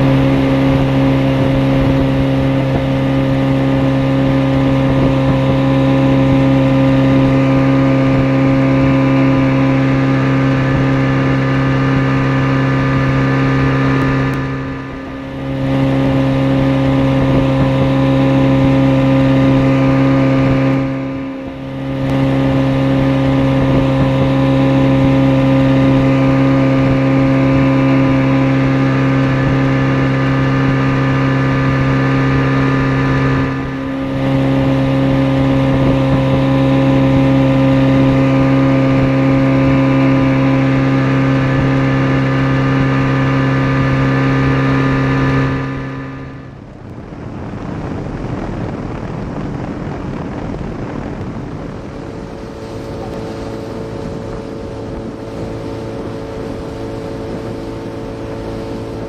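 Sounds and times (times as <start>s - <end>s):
boat engine hum: 0.0s - 59.0s
water rushing past hull: 0.0s - 59.0s
wind: 0.0s - 59.0s.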